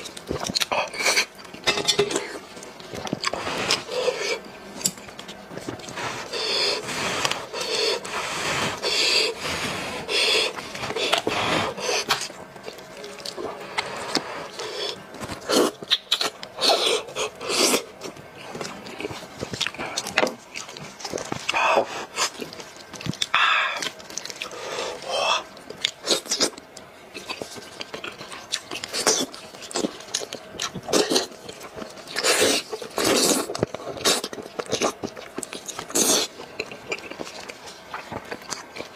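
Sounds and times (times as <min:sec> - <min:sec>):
wet chewing and sucking: 0:05.1 - 0:38.9.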